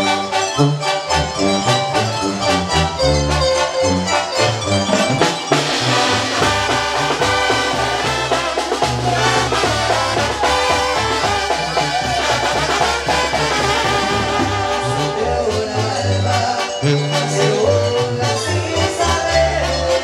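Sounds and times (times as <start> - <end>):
bass line: 0.0 - 20.0
brass band with harp: 0.0 - 20.0
trombones and trumpets melody: 0.0 - 20.0.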